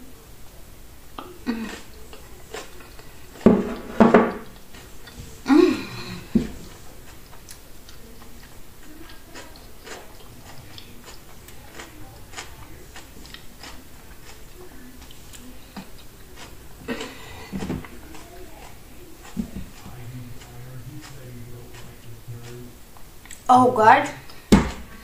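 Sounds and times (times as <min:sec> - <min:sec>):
person chewing crunchy food: 0:01.2 - 0:23.4.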